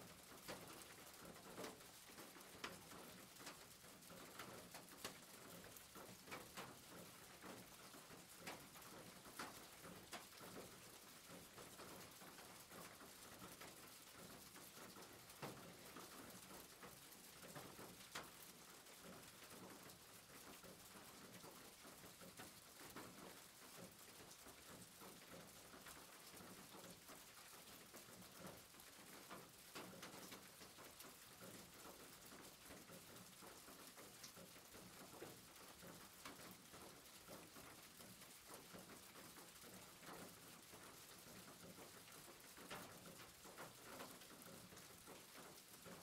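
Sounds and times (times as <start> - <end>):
faint steady hiss: 0.0 - 46.0.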